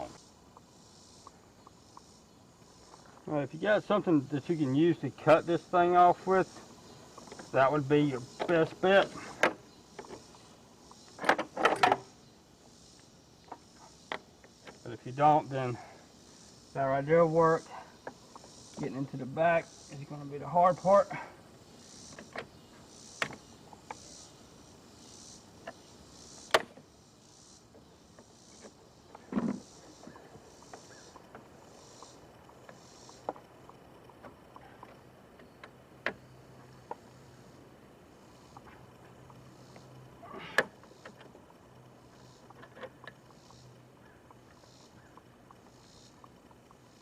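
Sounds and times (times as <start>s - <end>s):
faint high hiss: 0.0s - 47.0s
faint steady hum: 0.0s - 47.0s.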